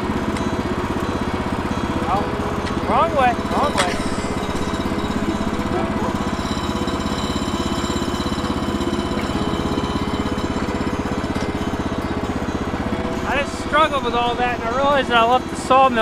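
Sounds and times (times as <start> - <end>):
gas engine idling: 0.0 - 16.0.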